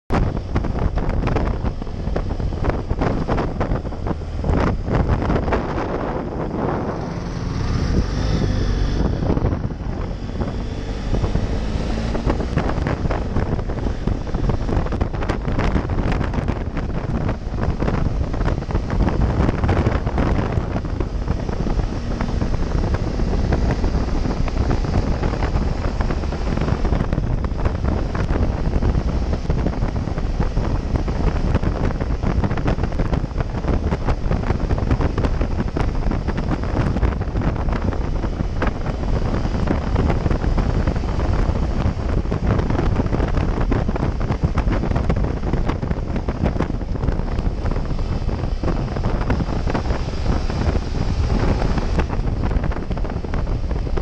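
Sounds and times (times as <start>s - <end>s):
motorcycle engine running: 0.1s - 54.0s
wind buffeting microphone: 0.1s - 54.0s.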